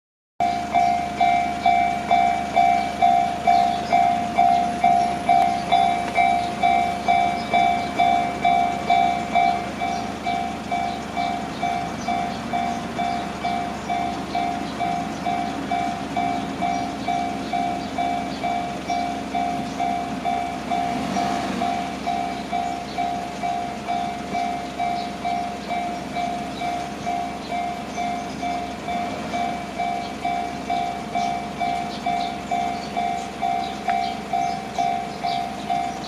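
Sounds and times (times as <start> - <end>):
level crossing warning bell: 0.4 - 36.0.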